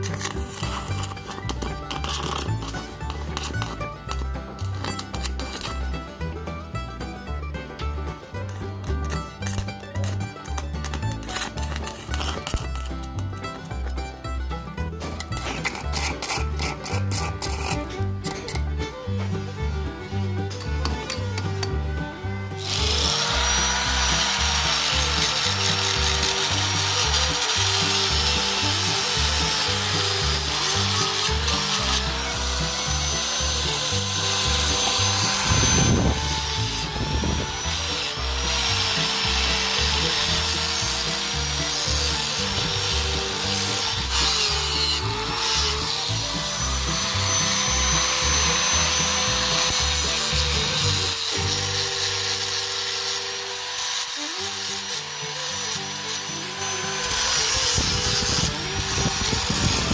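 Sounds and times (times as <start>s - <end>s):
power tool grinding metal: 0.0s - 7.2s, 8.1s - 14.0s, 14.6s - 59.9s.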